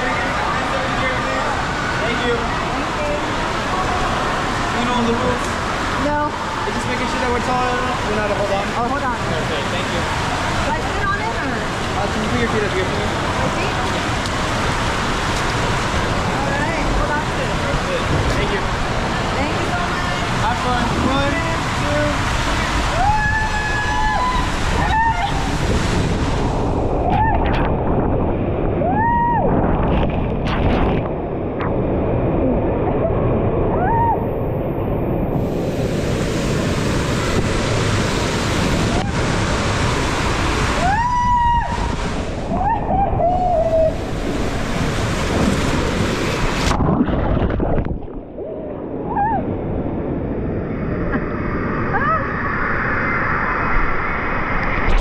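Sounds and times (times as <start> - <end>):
water rushing in slide tube: 0.0 - 55.0.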